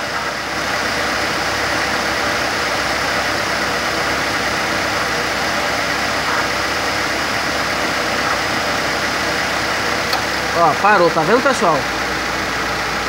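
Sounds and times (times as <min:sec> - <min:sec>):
air-conditioning compressor running: 0:00.0 - 0:13.0
car engine idling: 0:00.0 - 0:13.0.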